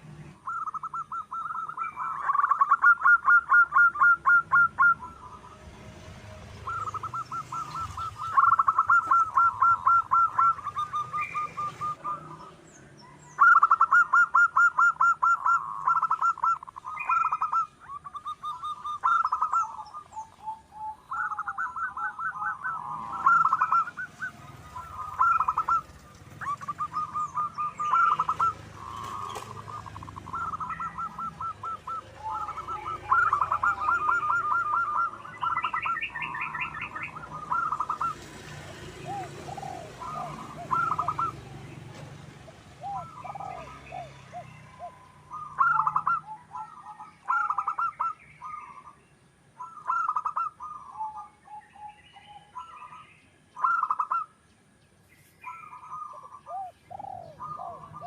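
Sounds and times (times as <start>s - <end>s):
doves cooing: 0.0s - 49.0s, 49.6s - 54.4s, 55.4s - 58.0s
bird chirping: 0.0s - 58.0s.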